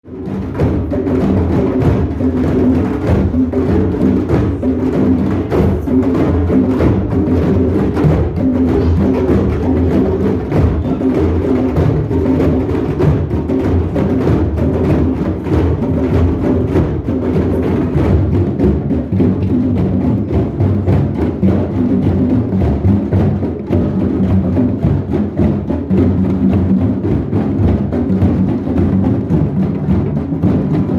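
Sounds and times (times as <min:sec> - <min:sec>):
many drums playing: 0:00.0 - 0:30.9.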